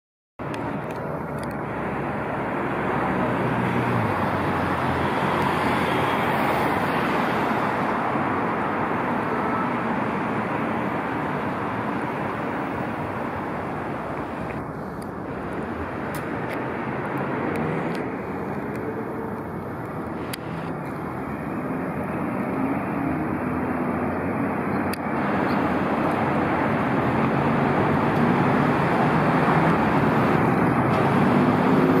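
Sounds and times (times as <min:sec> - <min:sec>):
vehicles passing: 0:00.4 - 0:32.0.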